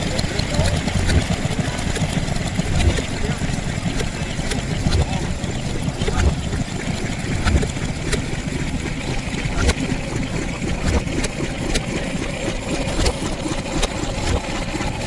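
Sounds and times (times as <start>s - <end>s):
small petrol engine idling: 0.0s - 15.0s.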